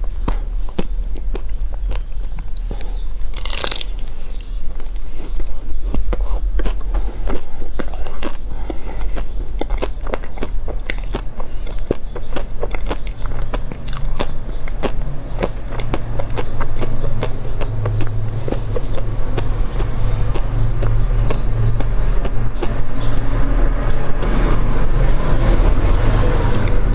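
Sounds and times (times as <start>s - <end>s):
crunching and chewing: 0.0s - 24.4s
low rumble: 0.0s - 26.9s.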